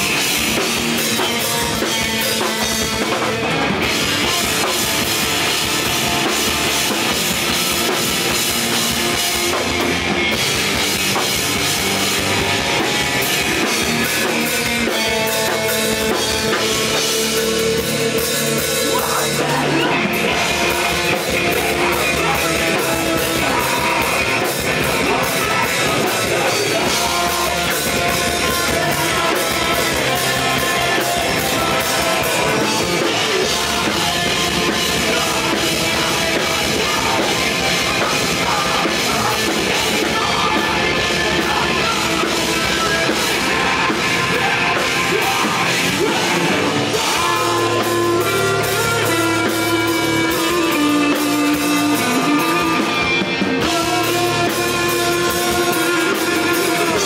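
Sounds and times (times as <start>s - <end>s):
bass guitar: 0.0s - 57.0s
drum kit: 0.0s - 57.0s
electric guitar: 0.0s - 57.0s
man singing: 0.0s - 57.0s.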